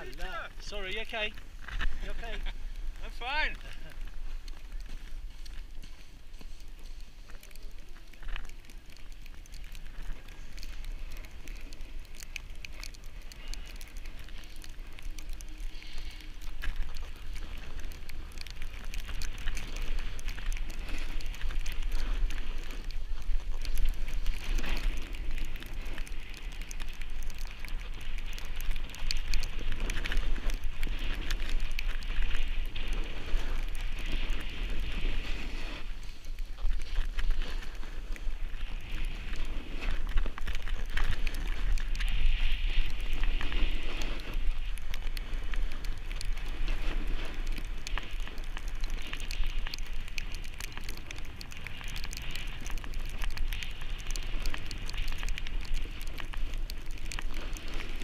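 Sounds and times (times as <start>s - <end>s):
skis scraping over packed snow: 0.0s - 58.0s.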